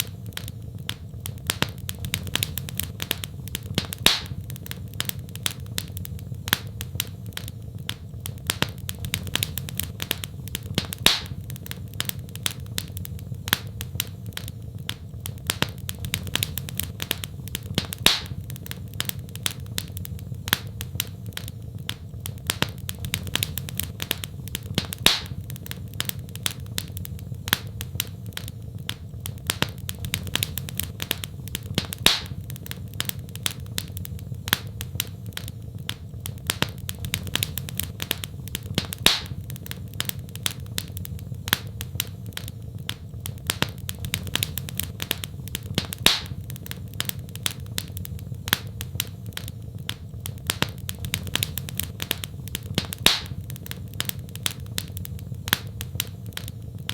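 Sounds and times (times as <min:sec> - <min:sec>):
steady low rumble: 0:00.0 - 0:56.9
wood fire crackling: 0:00.0 - 0:56.9.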